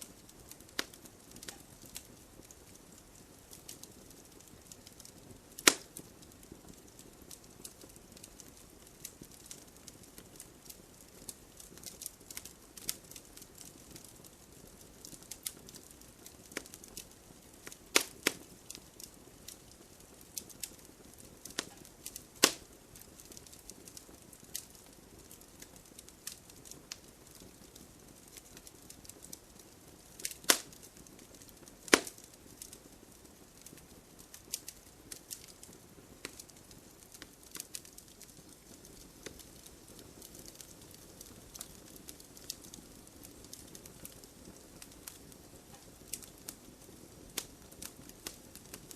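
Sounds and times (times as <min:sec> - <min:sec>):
fire hissing softly: 0:00.0 - 0:48.9
wood fire crackling: 0:00.0 - 0:48.9.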